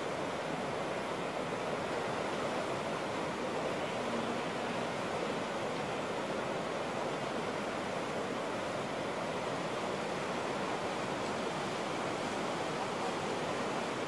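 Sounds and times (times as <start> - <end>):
rapids rushing: 0.0 - 14.0.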